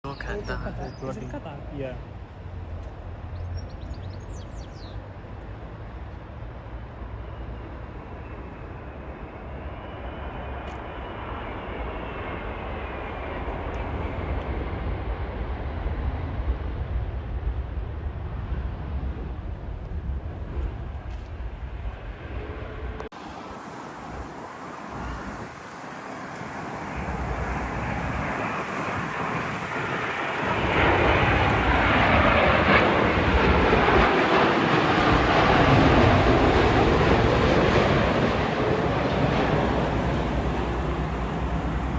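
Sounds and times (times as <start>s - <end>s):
jet airliner engine noise: 0.0s - 41.9s.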